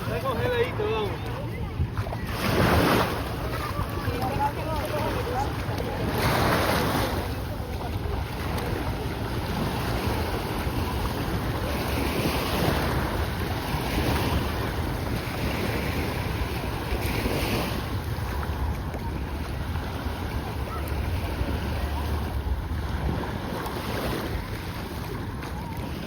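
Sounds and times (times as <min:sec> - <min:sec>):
sea waves breaking on shore: 0:00.0 - 0:26.0
wind rumbling on microphone: 0:00.0 - 0:26.0.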